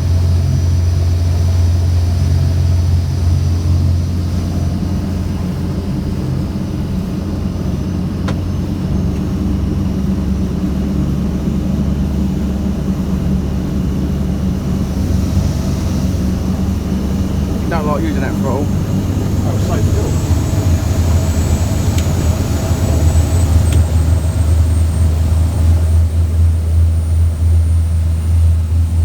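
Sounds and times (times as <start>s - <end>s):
boat engine drone: 0.0s - 29.0s.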